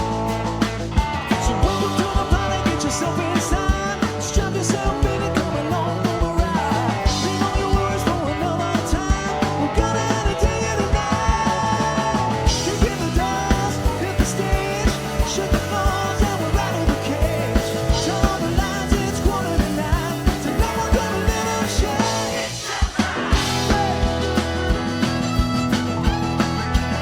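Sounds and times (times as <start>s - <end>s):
bending lead melody: 0.0s - 27.0s
drum beat: 0.0s - 27.0s
live country band playing: 0.0s - 27.0s.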